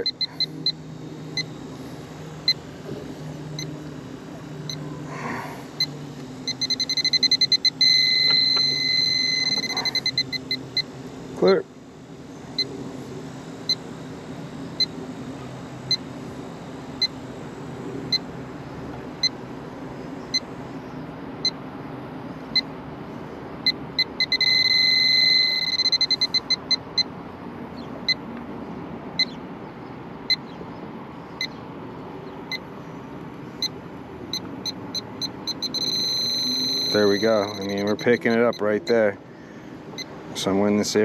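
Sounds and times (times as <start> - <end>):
leak detector beeping: 0.0 - 21.6, 22.5 - 22.8, 23.6 - 27.3, 28.0 - 28.3, 29.2 - 29.4, 30.2 - 30.5, 31.3 - 31.6, 32.4 - 32.8, 33.4 - 39.2, 39.9 - 41.0
continuous alarm tone: 0.0 - 28.3, 32.4 - 32.8, 33.4 - 41.0
steady low hum: 0.0 - 41.0.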